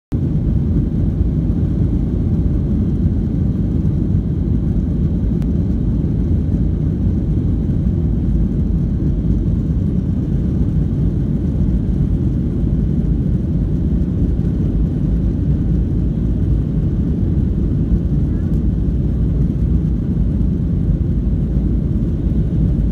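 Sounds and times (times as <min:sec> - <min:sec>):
jet engine rumble in cabin: 0:00.1 - 0:22.9.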